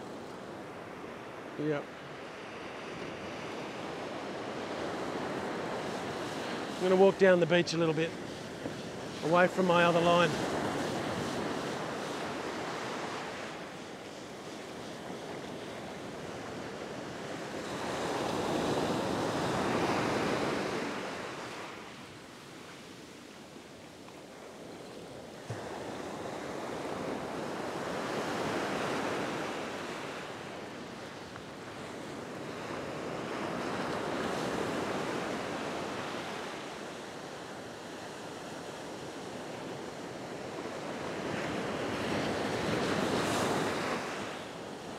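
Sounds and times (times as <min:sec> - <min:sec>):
ocean surf breaking: 0:00.0 - 0:23.7, 0:25.4 - 0:44.9.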